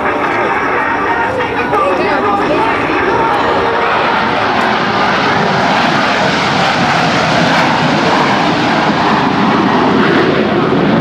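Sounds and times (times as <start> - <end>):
jet engines roaring past: 0.0 - 11.0.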